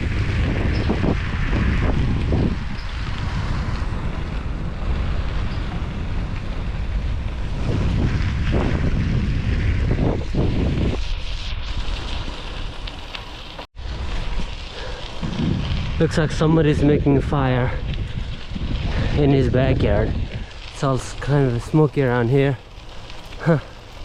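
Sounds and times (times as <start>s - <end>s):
wind buffeting microphone: 0.0s - 13.0s, 13.8s - 24.0s.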